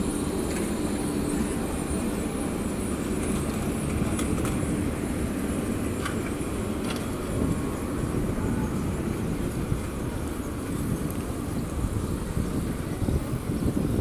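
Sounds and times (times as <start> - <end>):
tram rolling past: 0.0 - 14.0.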